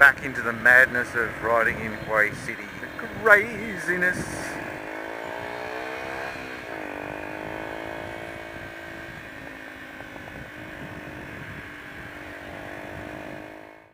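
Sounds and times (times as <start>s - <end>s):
riding noise: 0.0s - 13.7s
motorcycle engine running: 0.0s - 13.9s.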